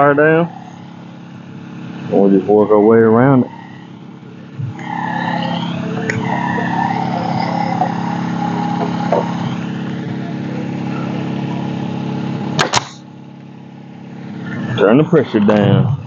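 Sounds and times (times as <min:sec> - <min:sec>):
air compressor motor running: 0:00.0 - 0:16.0.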